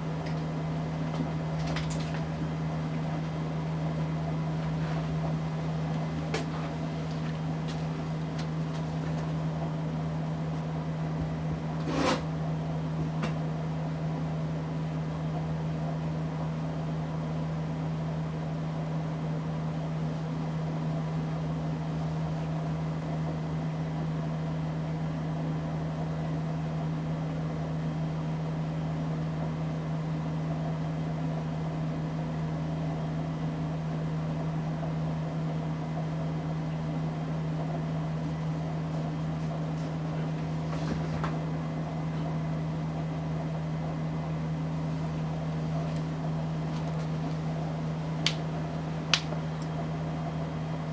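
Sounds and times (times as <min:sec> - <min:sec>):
ceiling fan motor humming: 0:00.0 - 0:50.9.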